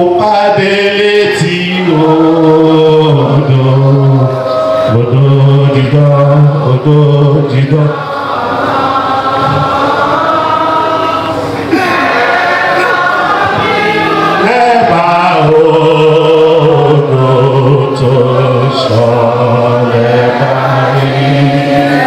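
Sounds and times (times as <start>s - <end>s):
man singing into a microphone: 0.0s - 8.1s, 11.7s - 22.0s
group of voices singing: 0.0s - 22.0s.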